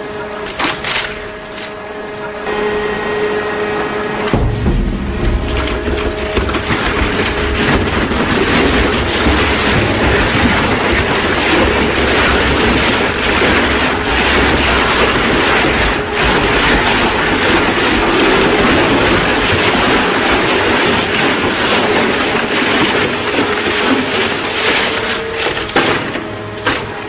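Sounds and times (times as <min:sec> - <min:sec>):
heavy machinery rumbling and rattling: 0:00.0 - 0:27.0.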